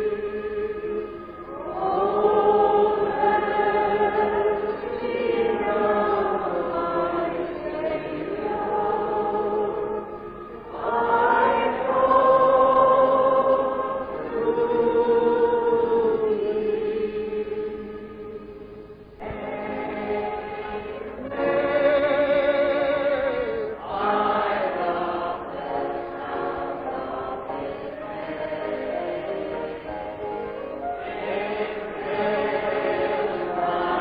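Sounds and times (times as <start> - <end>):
choir singing a hymn: 0.0 - 34.0.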